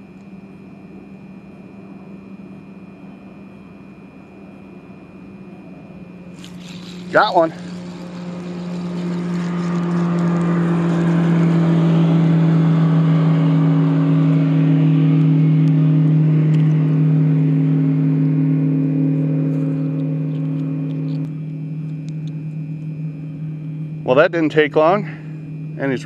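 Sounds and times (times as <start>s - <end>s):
motor engine humming: 4.2s - 26.0s.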